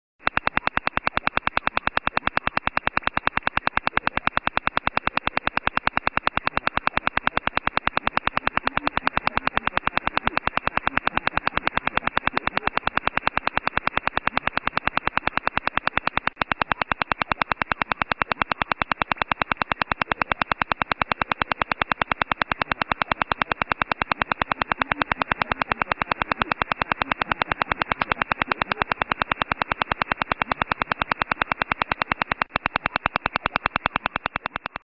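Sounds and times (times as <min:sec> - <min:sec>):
radar pulses through shortwave radio: 0:00.2 - 0:34.8.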